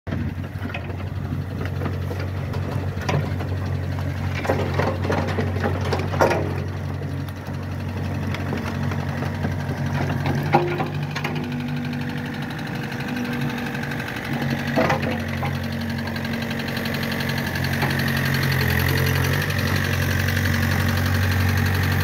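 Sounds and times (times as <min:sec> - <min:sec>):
diesel engine idling: 0:00.1 - 0:22.0.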